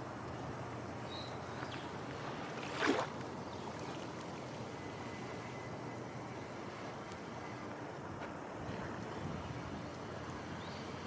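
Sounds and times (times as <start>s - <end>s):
gentle surf: 0.0s - 11.0s.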